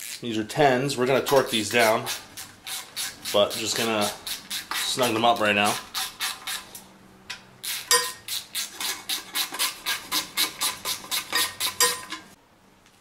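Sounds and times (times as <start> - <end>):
hand ratchet clicking: 1.3 - 12.2.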